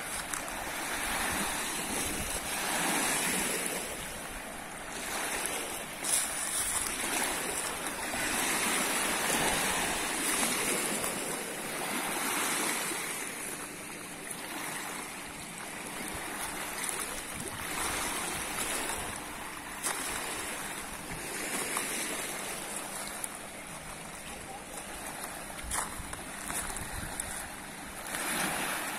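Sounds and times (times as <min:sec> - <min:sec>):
small waves lapping on stony shore: 0:00.0 - 0:28.9.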